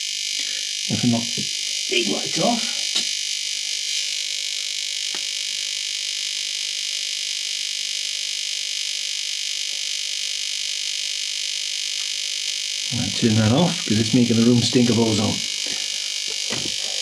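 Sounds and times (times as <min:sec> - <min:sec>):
high-pitched electrical hiss: 0:00.0 - 0:17.0.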